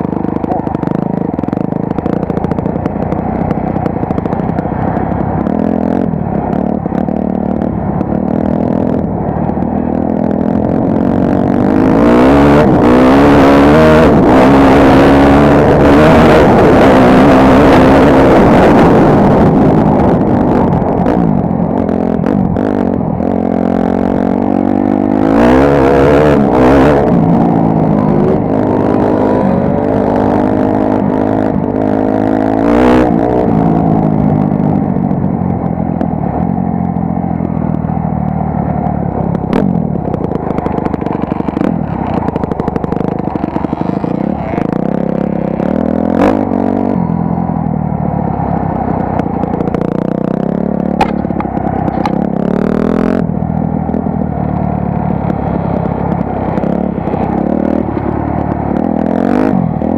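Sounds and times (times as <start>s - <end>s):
dirt bike engine revving: 0.0s - 34.8s, 39.1s - 47.5s, 48.3s - 59.9s.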